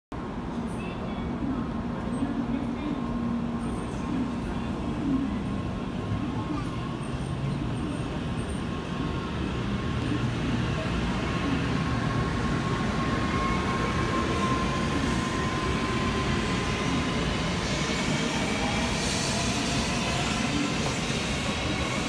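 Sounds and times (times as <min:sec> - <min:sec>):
train rolling noise: 0:00.2 - 0:22.0.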